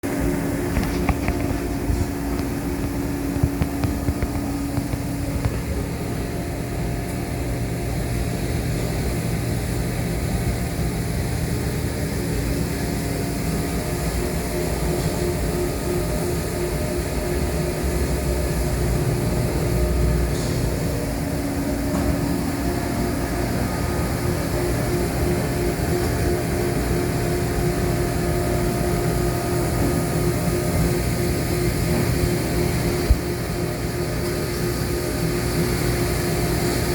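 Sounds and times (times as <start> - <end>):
shop machinery drone: 0.0 - 36.9.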